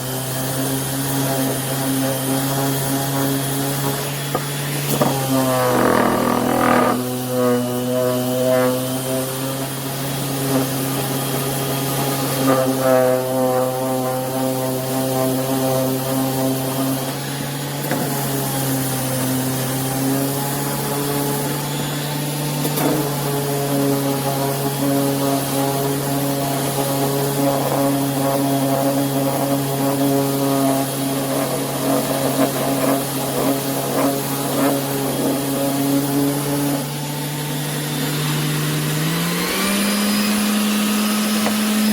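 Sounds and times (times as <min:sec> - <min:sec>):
orbital sander running: 0:00.0 - 0:41.9.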